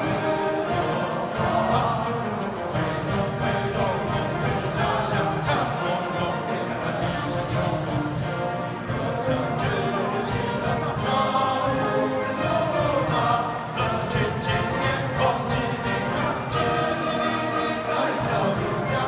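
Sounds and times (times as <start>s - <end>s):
brass band playing: 0.0s - 19.0s
crowd singing in unison: 0.0s - 19.0s.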